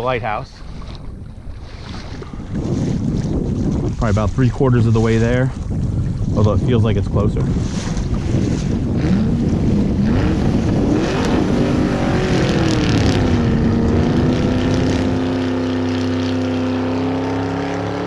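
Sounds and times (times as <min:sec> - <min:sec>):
water noise: 0:00.0 - 0:18.0
wind: 0:00.0 - 0:18.0.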